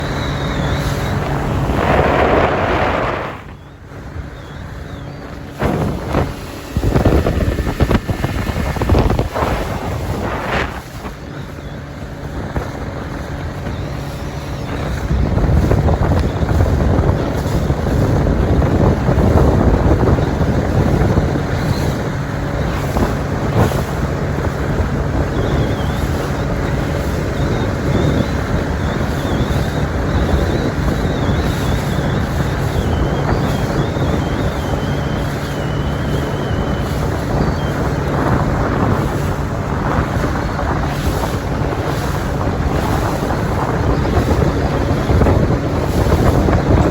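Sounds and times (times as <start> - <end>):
boat motor idling: 0.0 - 46.9
wind on microphone: 0.0 - 46.9.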